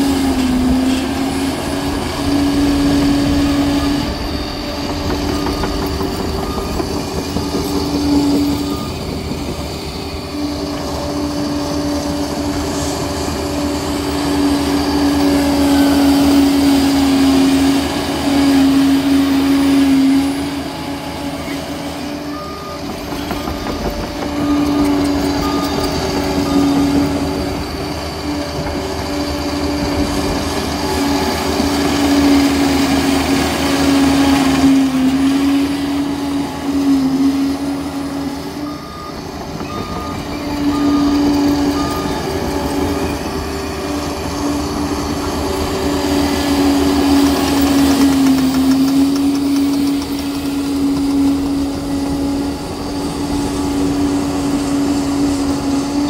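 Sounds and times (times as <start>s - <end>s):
diesel engine running under load: 0.0s - 56.0s
reversing alarm beeps: 0.2s - 53.2s.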